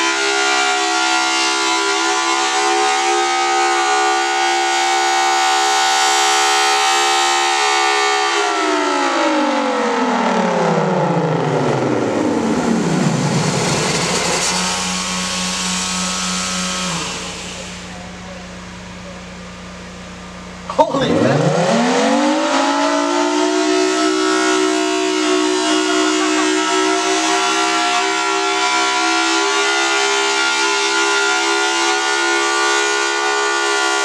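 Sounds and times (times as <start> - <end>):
warning siren wailing: 0.0 - 34.0.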